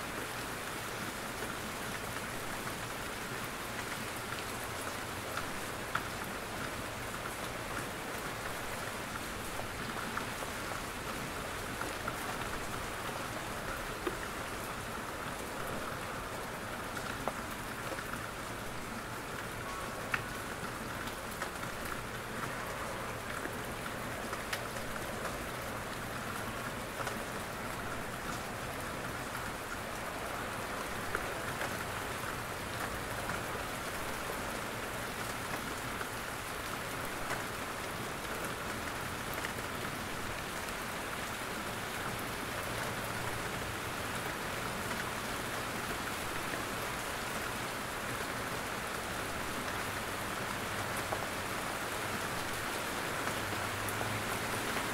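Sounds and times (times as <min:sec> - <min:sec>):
rain hiss in forest: 0:00.0 - 0:54.9.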